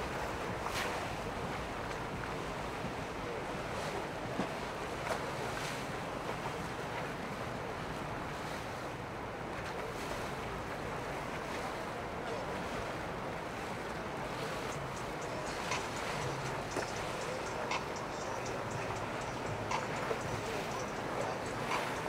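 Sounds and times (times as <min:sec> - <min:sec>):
churning water and boat wake: 0:00.0 - 0:22.0.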